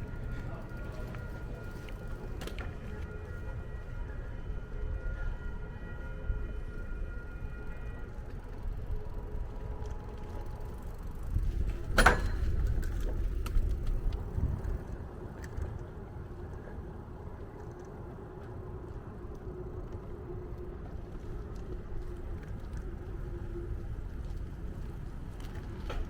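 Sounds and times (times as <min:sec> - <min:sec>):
road and traffic rumble: 0:00.0 - 0:26.0
steady multi-tone whine: 0:00.0 - 0:26.0.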